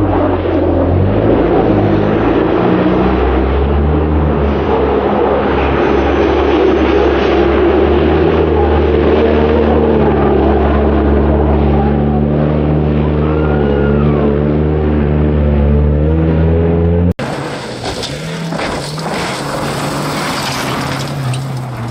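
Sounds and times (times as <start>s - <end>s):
rally car engine running: 0.0s - 21.9s.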